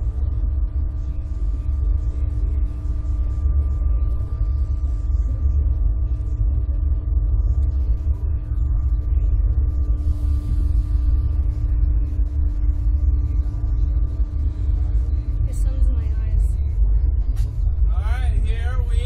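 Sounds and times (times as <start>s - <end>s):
faint even hum: 0.0s - 19.0s
low rumble: 0.0s - 19.0s.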